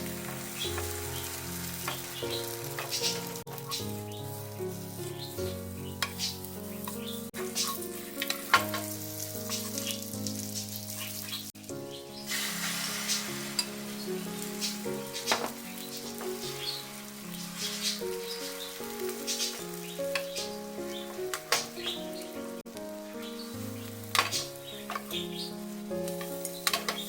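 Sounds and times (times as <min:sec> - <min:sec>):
food sizzling in a frying pan: 0:00.0 - 0:27.0
soft background music: 0:00.0 - 0:27.0.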